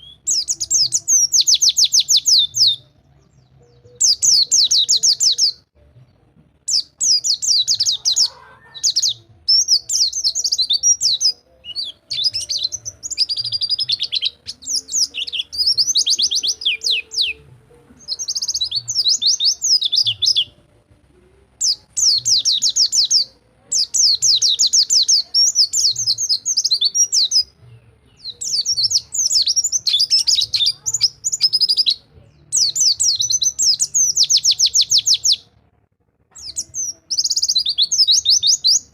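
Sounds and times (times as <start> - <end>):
bird singing high rolling trills: 0.0 - 35.6, 36.3 - 38.9.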